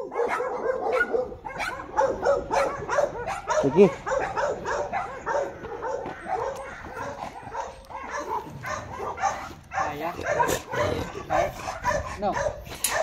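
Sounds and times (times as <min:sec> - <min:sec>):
dog barking and whining: 0:00.0 - 0:13.0.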